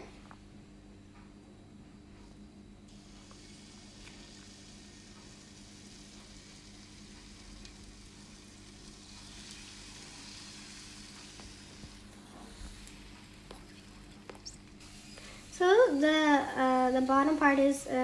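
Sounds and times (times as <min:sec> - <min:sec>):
batter sizzling in a frying pan: 0:02.9 - 0:18.0.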